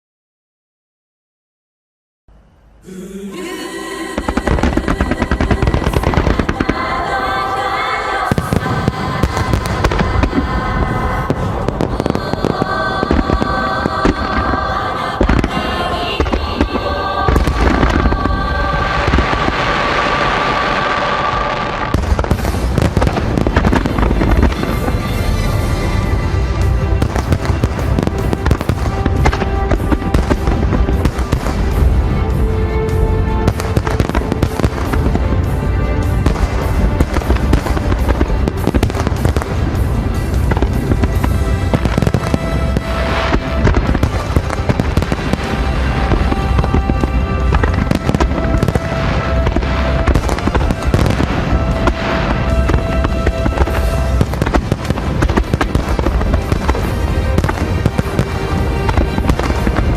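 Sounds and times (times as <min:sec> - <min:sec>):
music playing: 0:02.8 - 0:59.9
fireworks bursting and crackling: 0:04.1 - 0:59.9.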